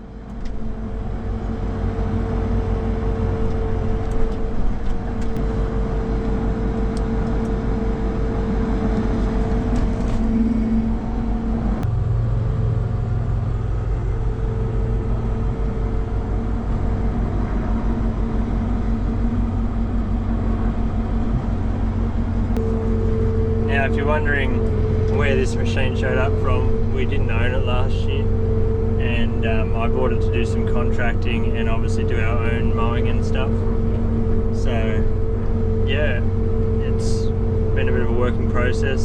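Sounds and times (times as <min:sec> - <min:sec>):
deeper hum: 0:00.0 - 0:39.0
engine running steadily: 0:00.0 - 0:39.0.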